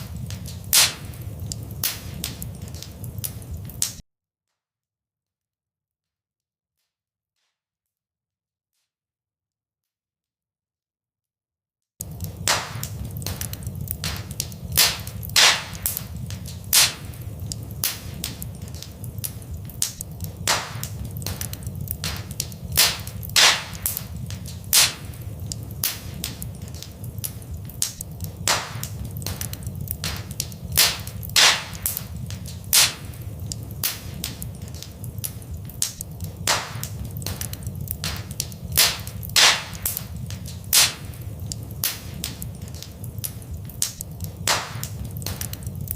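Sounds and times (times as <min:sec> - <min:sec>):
low steady rumble: 0:00.0 - 0:03.8, 0:12.0 - 0:45.9
fire crackling and popping: 0:00.0 - 0:04.0, 0:12.0 - 0:45.9.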